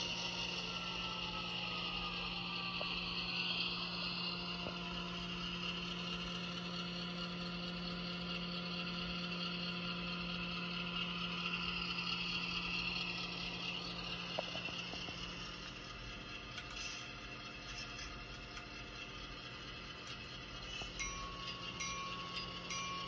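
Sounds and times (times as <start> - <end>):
diesel engine hum through small speaker: 0.0 - 21.0.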